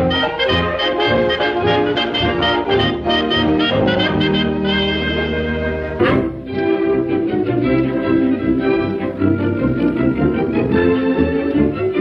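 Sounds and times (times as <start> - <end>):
jazz band accompaniment: 0.0 - 12.0
trumpet and trombone melody: 0.0 - 12.0.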